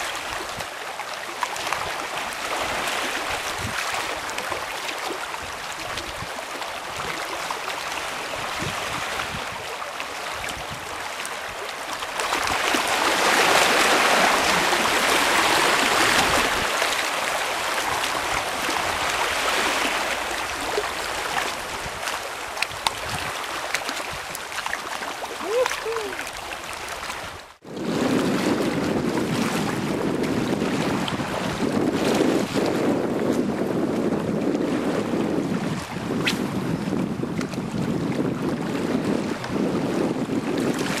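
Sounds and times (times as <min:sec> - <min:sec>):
sea water lapping: 0:00.0 - 0:41.0
wind on microphone: 0:01.6 - 0:41.0.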